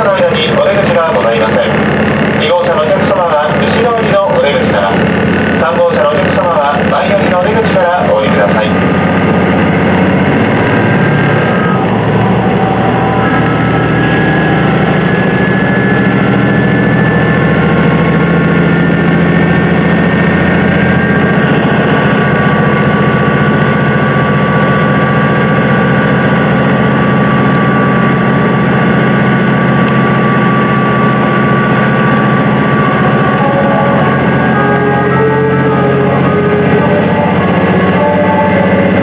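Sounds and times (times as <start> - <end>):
diesel engines droning: 0.0 - 39.0
high whining tones: 0.0 - 39.0
rumble of running train: 0.0 - 39.0.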